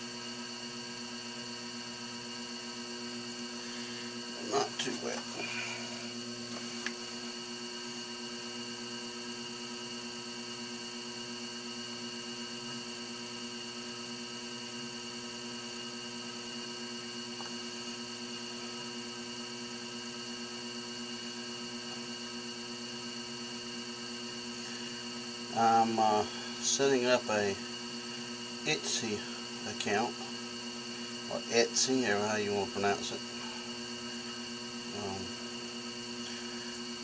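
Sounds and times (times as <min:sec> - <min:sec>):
potter's wheel humming: 0:00.0 - 0:37.0.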